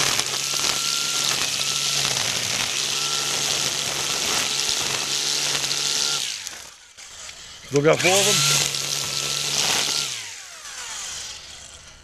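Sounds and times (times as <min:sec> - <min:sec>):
electric string trimmer running: 0:00.0 - 0:12.0.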